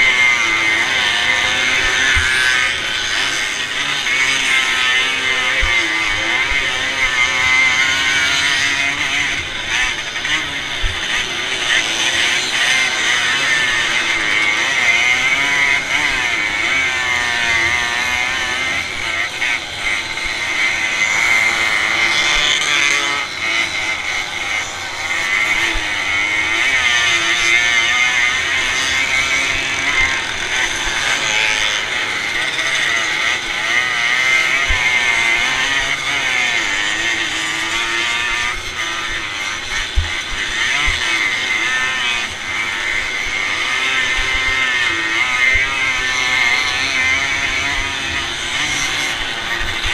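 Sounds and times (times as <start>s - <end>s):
motocross bike engine revving: 0.0s - 49.9s
other motorbike engines: 0.0s - 49.9s.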